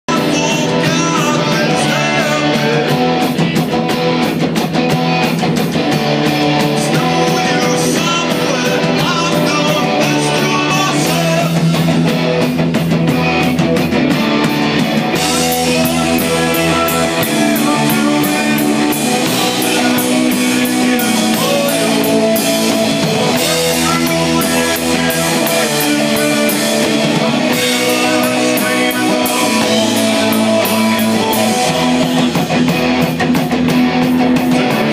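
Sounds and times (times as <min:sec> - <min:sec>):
heavy metal band playing live: 0:00.0 - 0:34.9.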